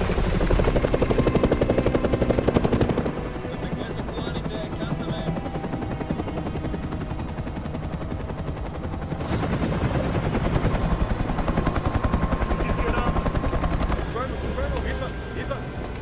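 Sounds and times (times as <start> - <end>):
helicopter rotor chopping: 0.0 - 16.0
turbine drone: 0.0 - 16.0.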